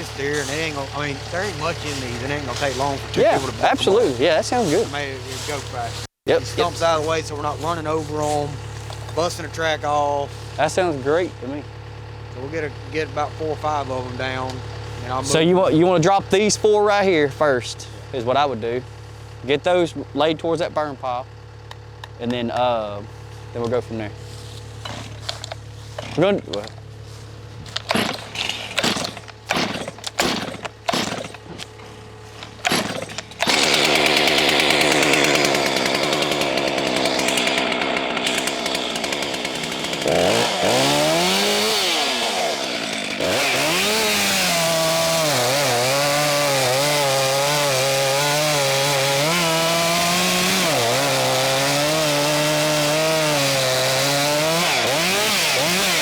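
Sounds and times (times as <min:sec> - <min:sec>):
chainsaw cutting wood: 0:00.0 - 0:16.8, 0:21.4 - 0:56.0.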